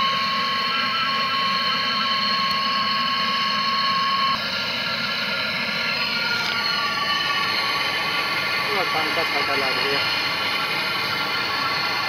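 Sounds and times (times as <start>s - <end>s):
steady whistle: 0.0s - 12.0s.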